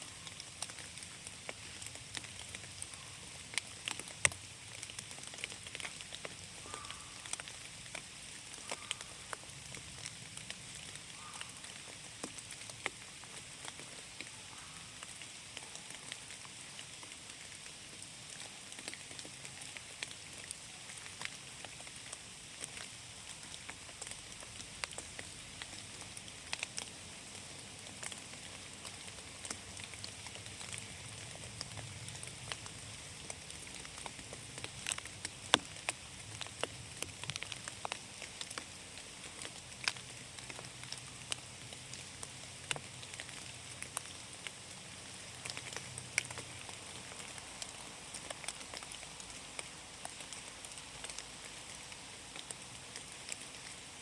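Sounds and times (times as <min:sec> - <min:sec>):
rain falling in forest: 0:00.0 - 0:54.0
raindrops tapping close by: 0:00.0 - 0:54.0.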